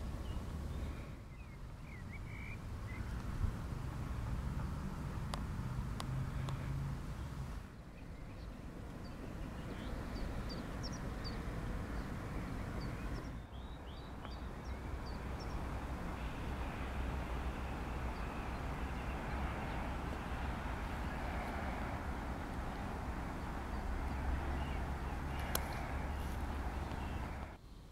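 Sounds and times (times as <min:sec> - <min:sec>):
outdoor background rush: 0:00.0 - 0:27.6
small songbirds chirping: 0:00.0 - 0:27.9.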